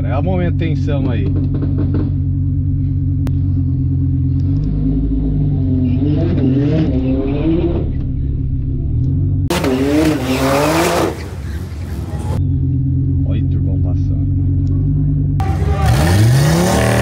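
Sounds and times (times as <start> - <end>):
sports car engine revving: 1.2 - 13.2, 14.2 - 17.0.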